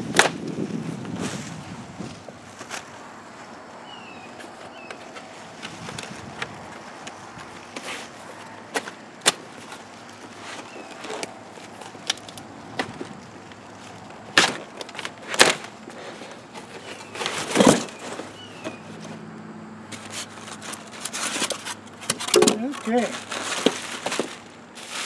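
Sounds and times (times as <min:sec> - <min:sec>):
cardboard scraping rustle: 0:00.2 - 0:19.2, 0:19.9 - 0:25.0.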